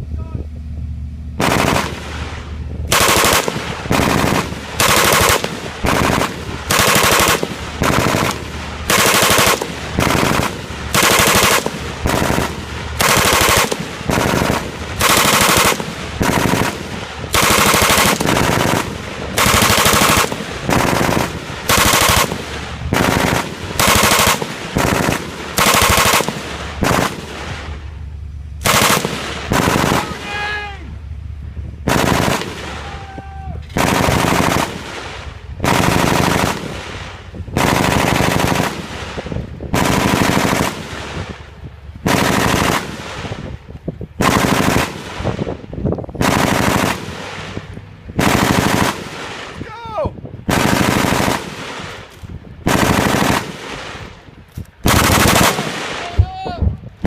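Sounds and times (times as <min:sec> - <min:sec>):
machine guns firing short bursts: 0:01.4 - 0:27.8, 0:28.6 - 0:30.7, 0:31.8 - 0:33.0, 0:33.7 - 0:41.3, 0:42.0 - 0:43.5, 0:44.2 - 0:45.6, 0:46.2 - 0:49.6, 0:50.5 - 0:54.2, 0:54.8 - 0:56.2.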